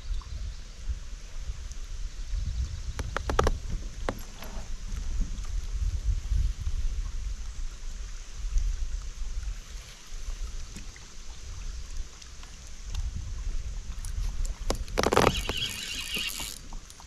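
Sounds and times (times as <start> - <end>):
wind on microphone: 0.0 - 17.0
water lapping against boat hull: 2.9 - 17.0.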